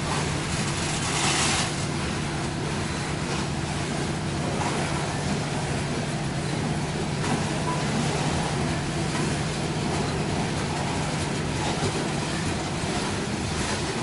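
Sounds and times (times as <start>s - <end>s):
locomotive engine drone: 0.0s - 14.0s.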